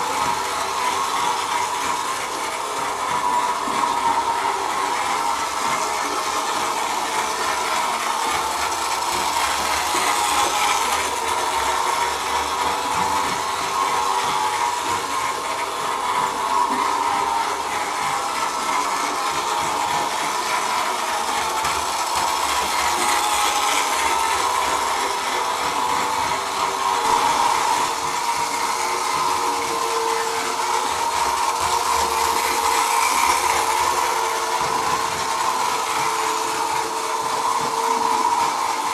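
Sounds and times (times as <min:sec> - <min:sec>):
electric motor and gears whirring: 0:00.0 - 0:38.9
wheels running on metal rails: 0:00.0 - 0:38.9.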